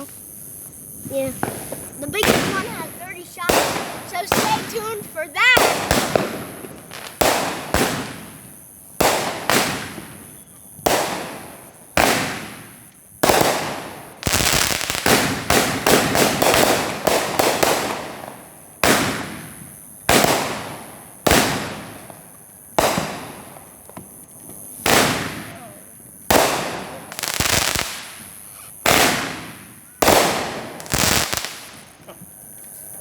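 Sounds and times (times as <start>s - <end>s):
fireworks crackling: 0.0s - 33.0s
fireworks bangs: 0.8s - 32.4s.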